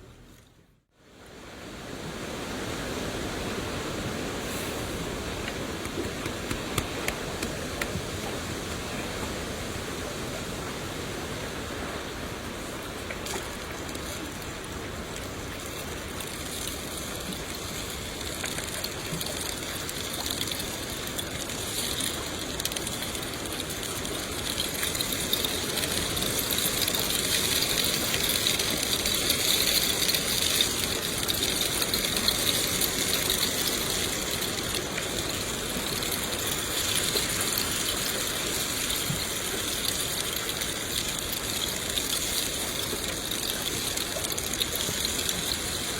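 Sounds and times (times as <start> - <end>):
steady rain falling: 1.1 - 45.9.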